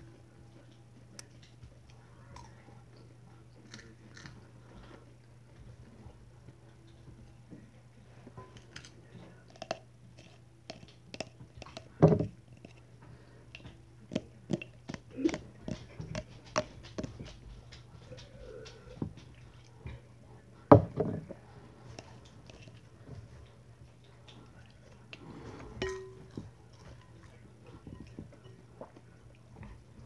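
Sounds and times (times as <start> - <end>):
popcorn being chewed: 0.0 - 20.7, 21.4 - 30.0.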